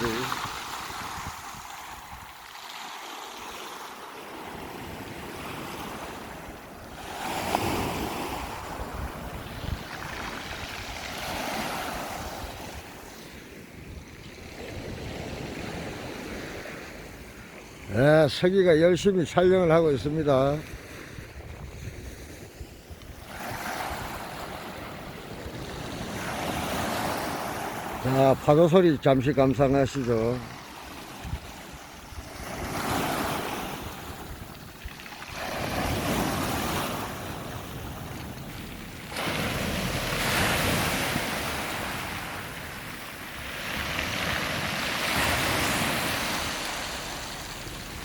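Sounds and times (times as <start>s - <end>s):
wind rumbling on microphone: 0.0s - 2.4s, 5.1s - 17.3s, 20.6s - 28.0s, 31.0s - 48.0s
waves washing onto pebble beach: 0.0s - 18.5s, 20.5s - 48.0s.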